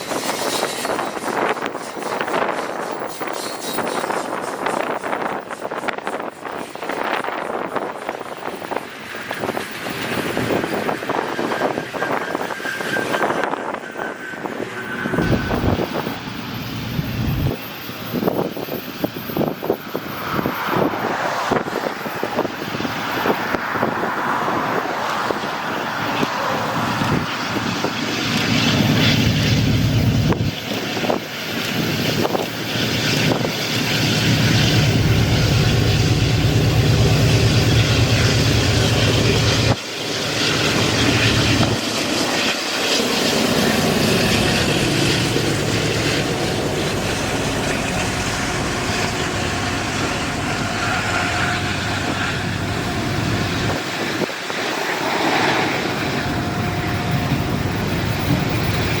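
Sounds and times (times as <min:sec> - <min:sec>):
diesel locomotive engine droning: 0:00.0 - 0:59.0
wind buffeting microphone: 0:00.0 - 0:59.0.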